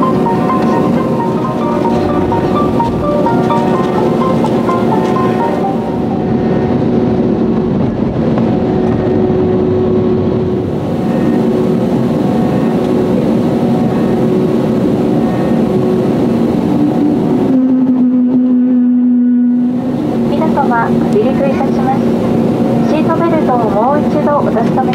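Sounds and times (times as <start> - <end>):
faint hum: 0.0 - 24.9
jet engines rumbling and hissing: 0.0 - 24.9.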